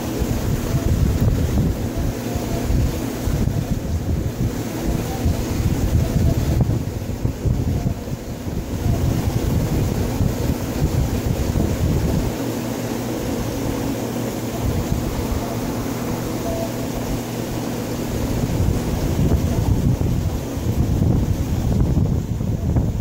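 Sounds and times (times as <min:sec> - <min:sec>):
circulating water rumble: 0:00.0 - 0:23.0
electric pump hum: 0:00.0 - 0:23.0.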